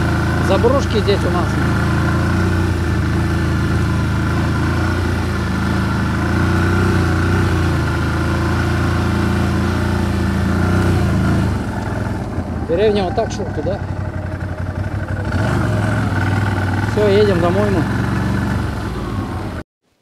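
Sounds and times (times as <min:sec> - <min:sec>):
car engine running: 0:00.0 - 0:19.6
road noise: 0:00.0 - 0:19.6.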